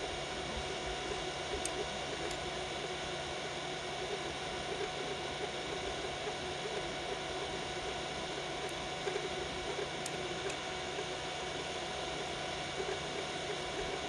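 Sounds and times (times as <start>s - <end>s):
cooling fans whirring: 0.0s - 14.0s.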